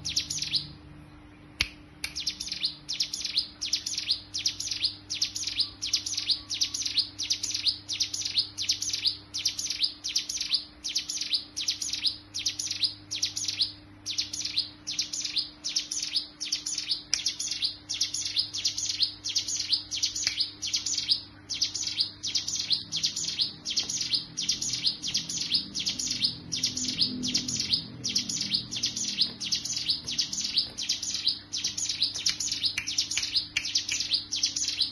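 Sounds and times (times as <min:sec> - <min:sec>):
bird chirping: 0:00.0 - 0:34.9.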